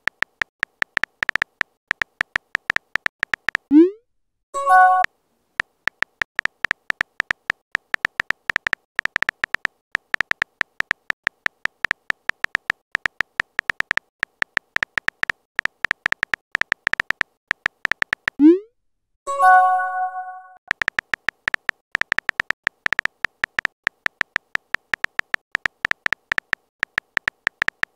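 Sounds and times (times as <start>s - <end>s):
keyboard typing clicks: 0.0s - 4.0s, 4.6s - 18.6s, 20.7s - 27.9s.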